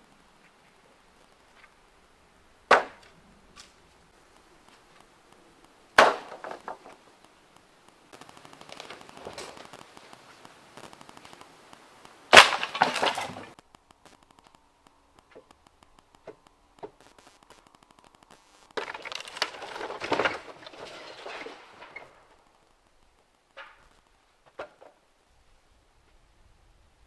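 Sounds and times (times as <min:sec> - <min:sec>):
sharp wooden cracks: 0:00.0 - 0:25.2.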